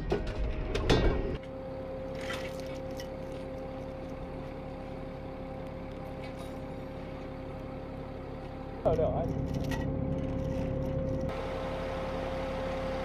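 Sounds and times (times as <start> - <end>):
vehicle engine idling: 1.4 - 13.0.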